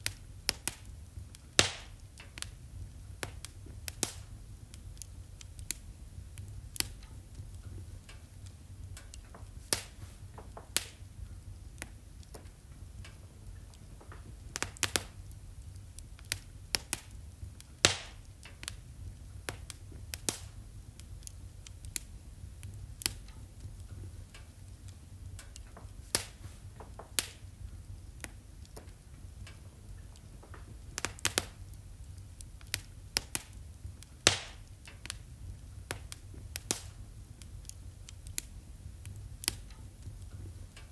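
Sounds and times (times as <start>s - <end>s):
low steady rumble: 0.0s - 40.9s
wood fire crackling and popping: 0.0s - 40.9s.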